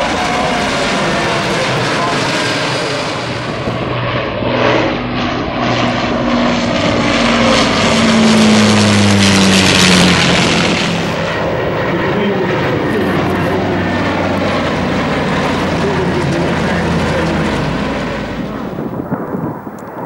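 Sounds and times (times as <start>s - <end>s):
jet engines whooshing overhead: 0.0s - 20.0s
propeller plane engines droning: 0.0s - 20.0s.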